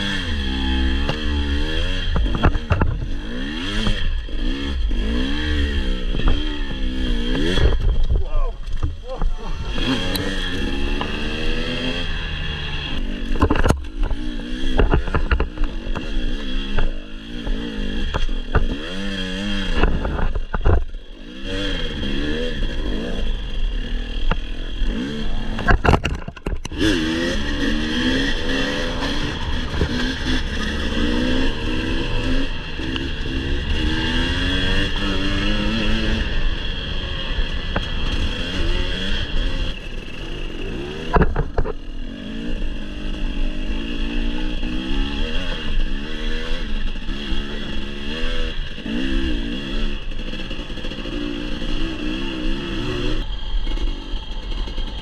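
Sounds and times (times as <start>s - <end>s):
knocks and rattles from bike: 0.0s - 12.0s, 12.9s - 55.0s
motorcycle engine revving: 0.0s - 55.0s.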